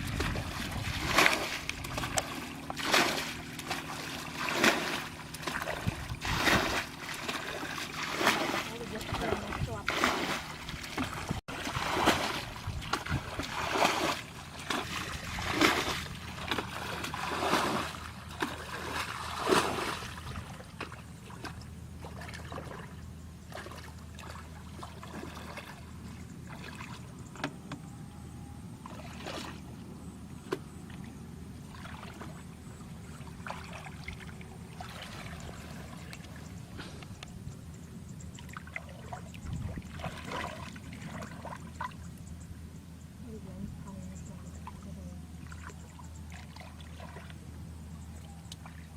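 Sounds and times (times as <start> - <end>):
water splashing: 0.0 - 27.4, 28.8 - 29.7, 30.5 - 36.6, 38.3 - 42.1, 44.6 - 47.4
water sloshing and trickling: 0.0 - 48.9.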